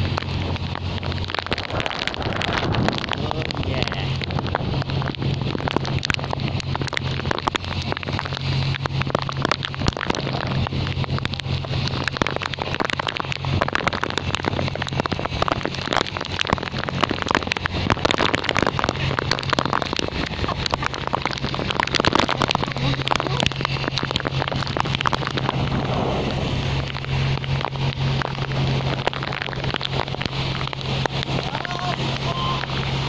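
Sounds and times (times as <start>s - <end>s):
heavy rain pattering: 0.0s - 33.0s
wind rumble on microphone: 0.0s - 33.0s.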